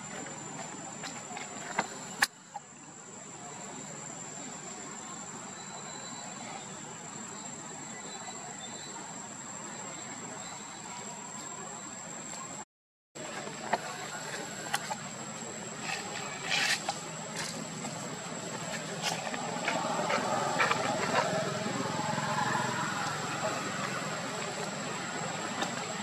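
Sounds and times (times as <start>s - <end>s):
insect trill: 3.5s - 12.5s, 13.2s - 26.0s.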